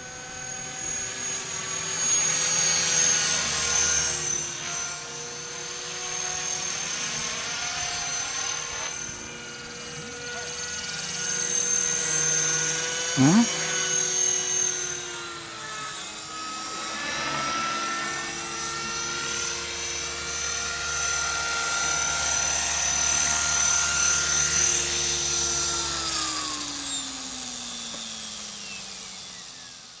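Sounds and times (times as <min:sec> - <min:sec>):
rc helicopter whine spooling down: 0:00.0 - 0:30.0.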